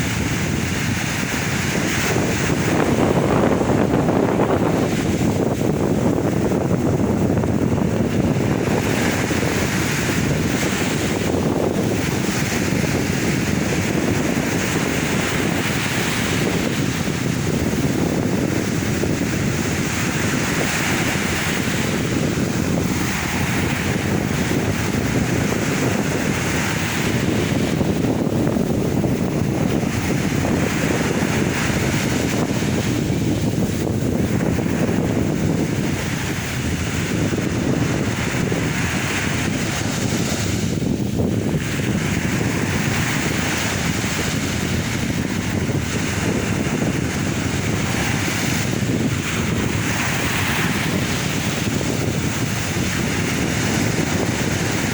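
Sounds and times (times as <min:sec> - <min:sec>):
low rumble of surf: 0:00.0 - 0:54.9
sea waves breaking on shore: 0:00.0 - 0:54.9.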